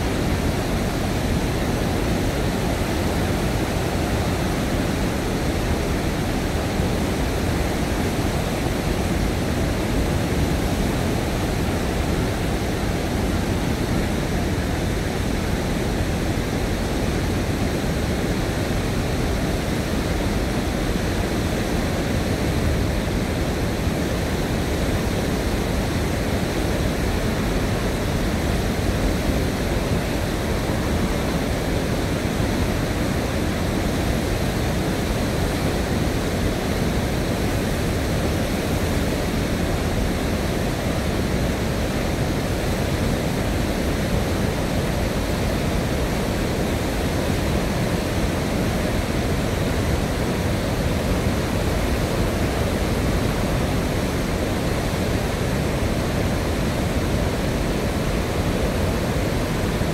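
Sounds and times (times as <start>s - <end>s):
deep roar of rushing floodwater: 0.0s - 59.9s.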